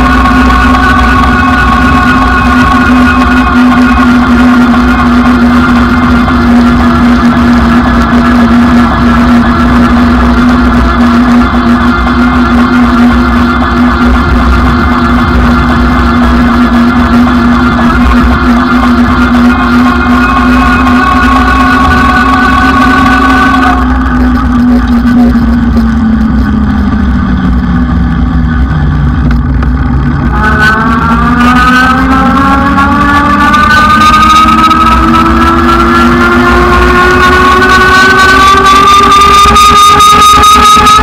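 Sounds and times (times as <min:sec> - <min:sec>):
electric motor whine: 0:00.0 - 0:41.0.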